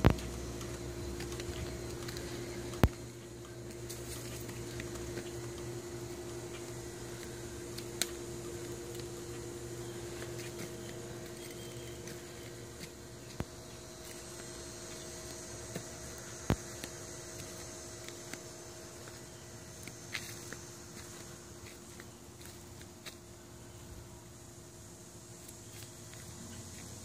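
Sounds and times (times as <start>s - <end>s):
steady hum with crackling: 0.0s - 27.0s.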